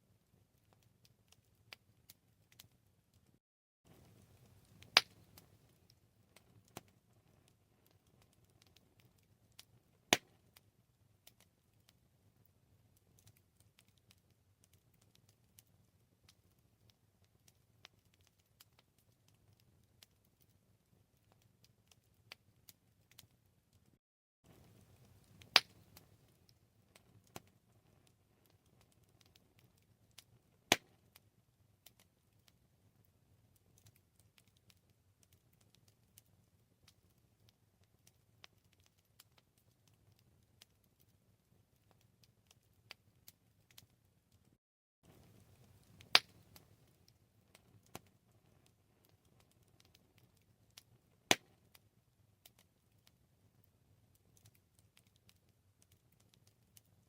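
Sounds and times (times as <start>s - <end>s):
campfire crackling: 0.1s - 44.5s, 45.1s - 57.0s.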